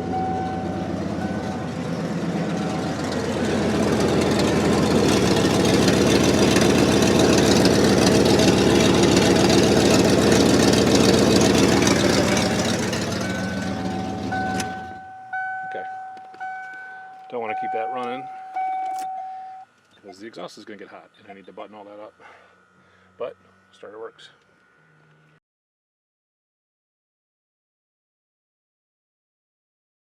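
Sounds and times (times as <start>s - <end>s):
truck engine running: 0.0s - 25.3s.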